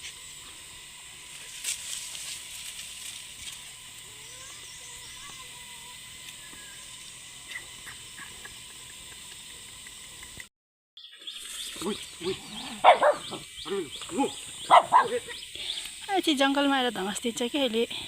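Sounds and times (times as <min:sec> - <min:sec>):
high-pitched insect buzzing: 0:00.0 - 0:10.4, 0:11.0 - 0:18.0.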